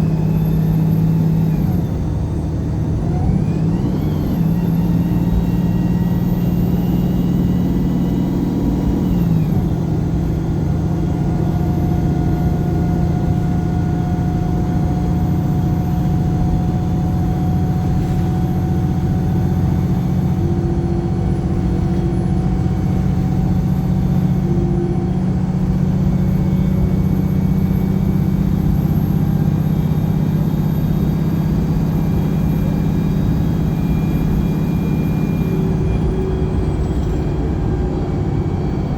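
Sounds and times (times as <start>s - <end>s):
bus diesel engine running: 0.0s - 38.9s
road rumble: 0.0s - 38.9s.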